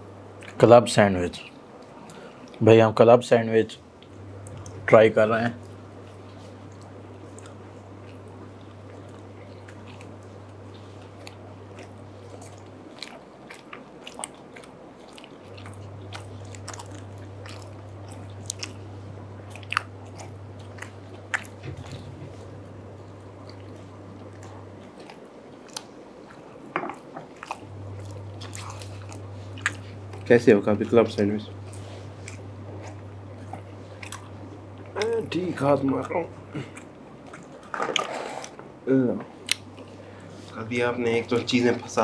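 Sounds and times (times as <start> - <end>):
men chewing sandwich: 0.1 - 2.7, 3.9 - 42.0.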